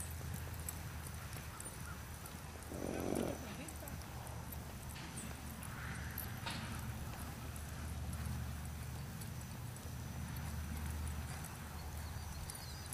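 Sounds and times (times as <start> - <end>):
hooves on soft dirt: 0.0 - 12.9.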